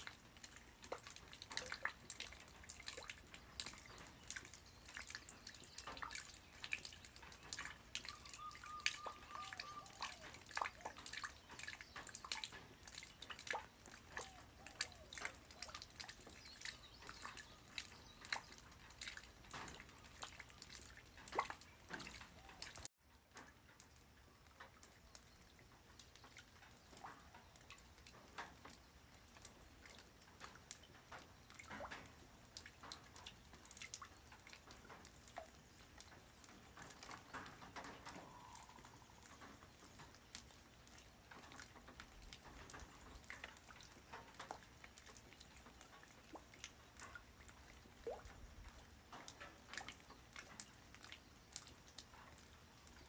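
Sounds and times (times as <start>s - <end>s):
rain drops dripping: 0.0s - 53.0s.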